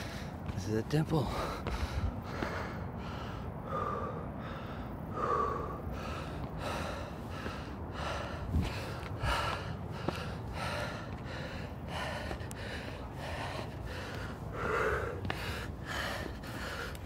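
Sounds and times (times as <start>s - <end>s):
man panting: 0.0s - 17.0s.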